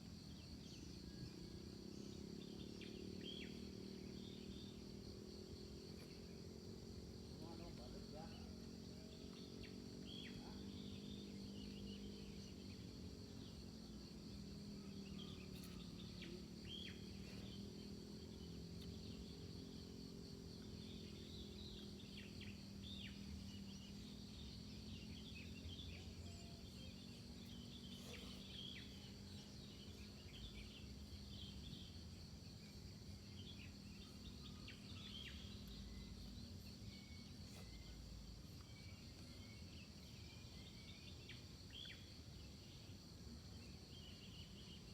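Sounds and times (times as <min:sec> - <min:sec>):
insects chirring: 0:00.0 - 0:44.9
low steady hum: 0:00.0 - 0:44.9
short insect chirps: 0:00.3 - 0:44.9.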